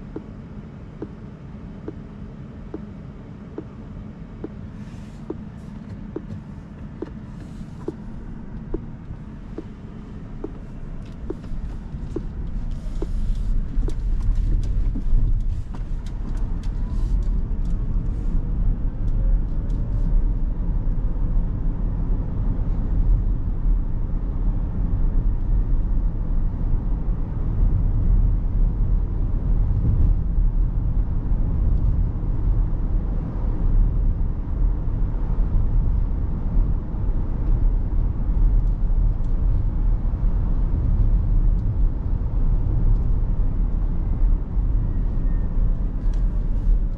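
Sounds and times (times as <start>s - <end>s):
road and tyre rumble in car: 0.0s - 46.9s.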